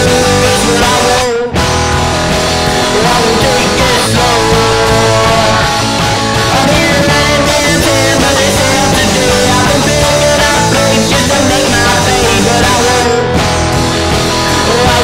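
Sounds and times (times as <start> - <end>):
punk rock band playing: 0.0 - 15.0.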